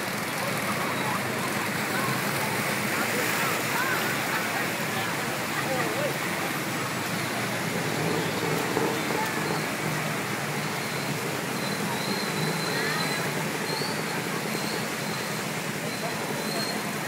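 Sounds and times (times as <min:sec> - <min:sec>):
floodwater rushing through street: 0:00.0 - 0:17.0
vehicles driving through water: 0:00.0 - 0:17.0.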